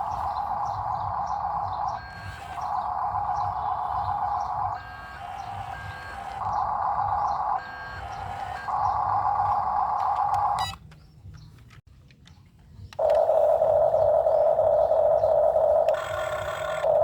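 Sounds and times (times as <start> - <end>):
reversing alarm buzzing: 0.0 - 10.8, 13.0 - 17.0.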